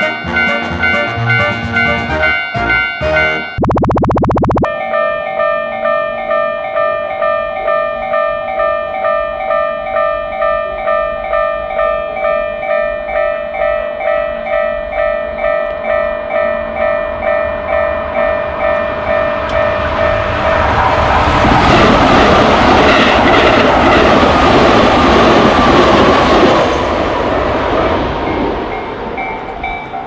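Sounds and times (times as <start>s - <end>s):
railroad crossing bell ringing: 0.0s - 3.6s, 4.7s - 30.0s
train passing: 0.0s - 3.6s, 5.6s - 30.0s.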